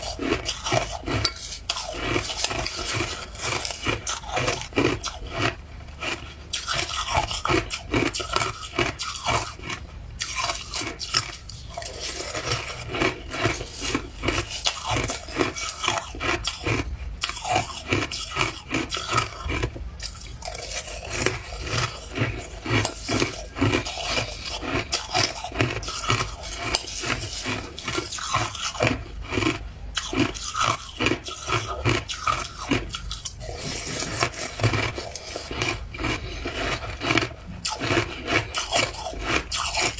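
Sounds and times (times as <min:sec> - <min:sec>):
person crunching ice cubes: 0:00.0 - 0:39.9.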